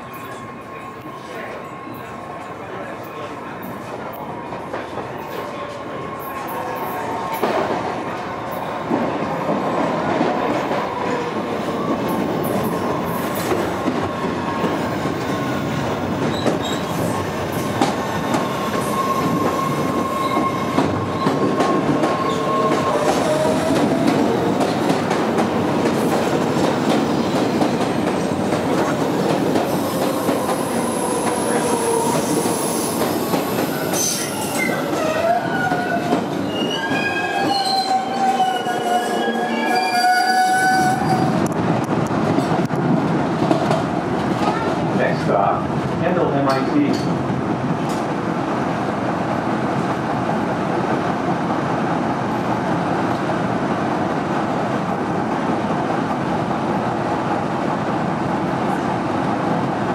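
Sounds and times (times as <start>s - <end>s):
subway wheels rumbling on rail: 0.0s - 59.9s.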